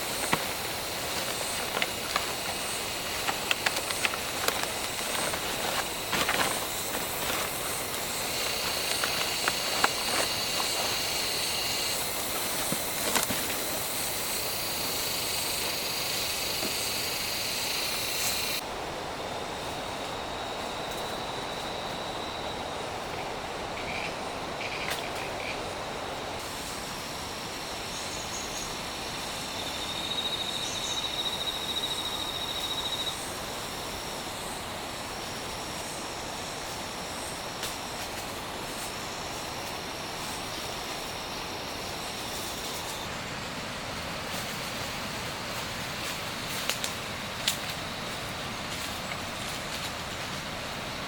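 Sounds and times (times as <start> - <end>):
insect trills: 0.0 - 18.6, 19.2 - 51.0
outdoor background noise: 0.0 - 51.0.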